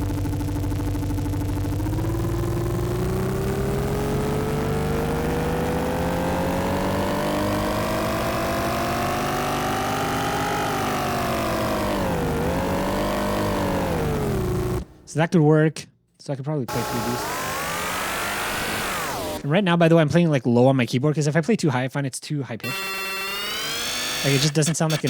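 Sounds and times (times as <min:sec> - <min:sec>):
synthesized spaceship engine tone: 0:00.0 - 0:15.1, 0:16.7 - 0:19.5, 0:22.6 - 0:25.0.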